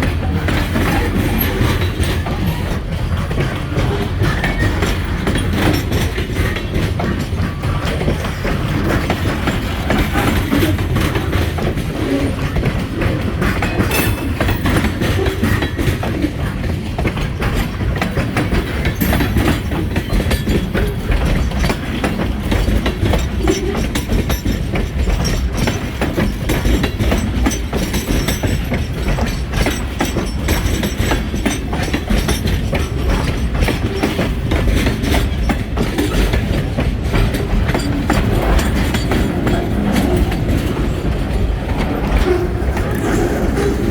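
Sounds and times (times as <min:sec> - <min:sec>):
freight train rolling past: 0:00.0 - 0:43.9
wheels clicking over rail joints: 0:00.0 - 0:43.9.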